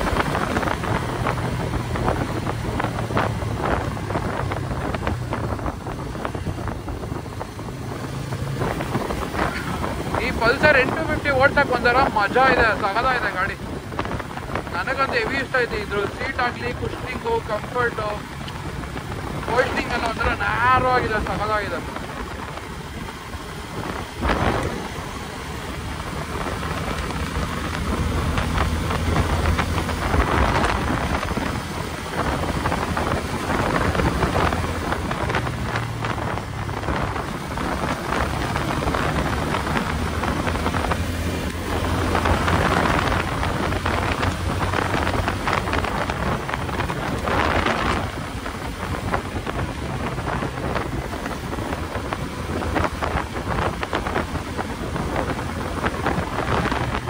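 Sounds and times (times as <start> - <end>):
motorcycle engine humming: 0.0 - 57.0
wind buffeting on microphone: 0.0 - 57.0.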